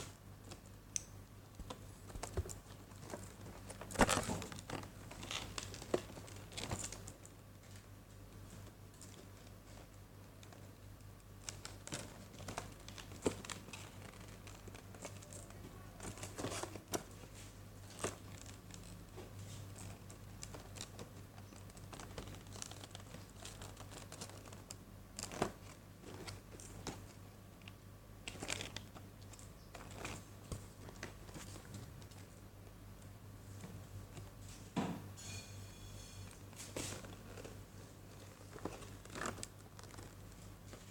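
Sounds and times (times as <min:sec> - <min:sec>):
steady low hum: 0:00.0 - 0:40.9
packaging crinkling and rustling: 0:01.5 - 0:32.4, 0:36.4 - 0:40.9.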